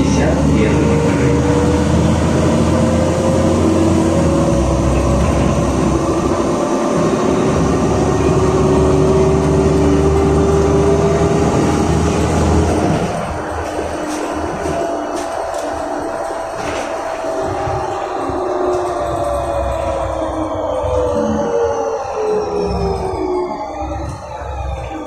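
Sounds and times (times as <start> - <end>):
bus engine rumble: 0.0 - 25.0
rising whine: 0.0 - 25.0
road noise: 0.0 - 25.0.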